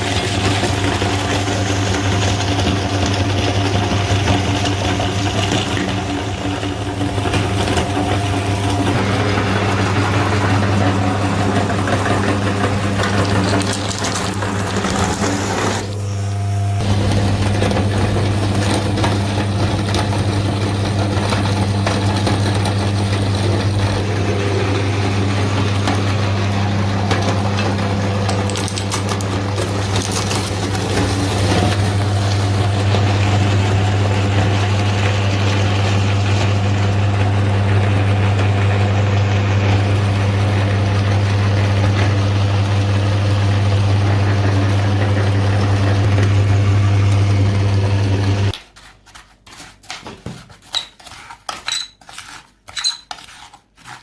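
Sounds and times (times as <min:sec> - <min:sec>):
kitchen grinder motor humming: 0:00.0 - 0:48.6.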